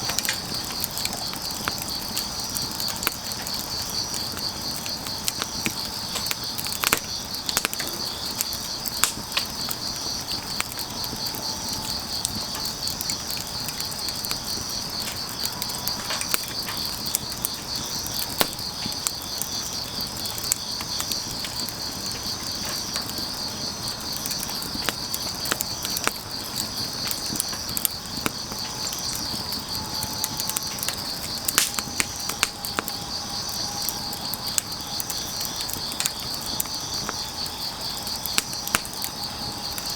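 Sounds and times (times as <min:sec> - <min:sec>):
insects chirring: 0:00.0 - 0:39.9
wood fire crackling and popping: 0:00.0 - 0:39.9.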